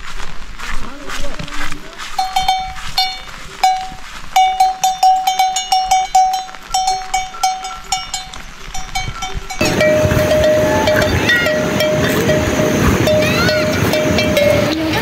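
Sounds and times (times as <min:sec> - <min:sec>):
lower-pitched bell: 0:02.2 - 0:15.0
metal livestock bells clanking: 0:02.2 - 0:15.0.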